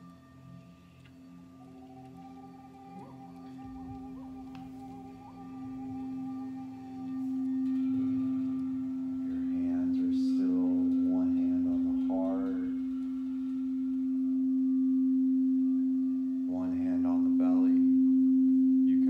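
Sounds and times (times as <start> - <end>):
higher ringing tones: 0.0 - 19.0
short wavering tones: 0.0 - 19.0
singing bowl low drone: 0.0 - 19.0.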